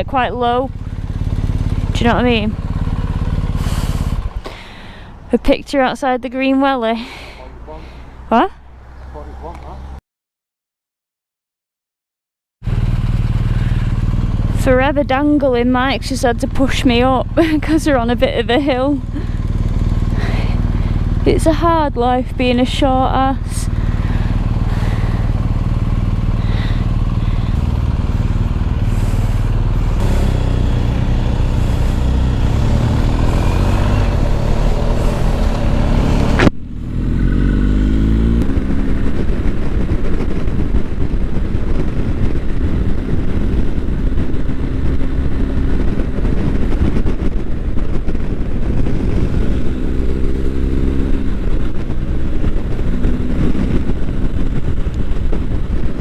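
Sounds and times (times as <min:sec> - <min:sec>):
motorcycle engine accelerating: 0:00.0 - 0:10.0, 0:12.6 - 0:56.0.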